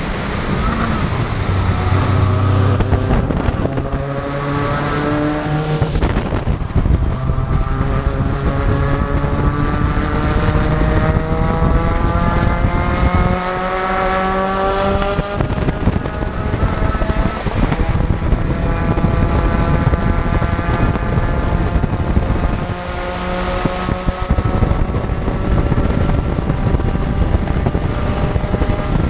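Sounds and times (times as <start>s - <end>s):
race car engine accelerating: 0.0s - 29.0s
wind rushing: 0.0s - 29.0s.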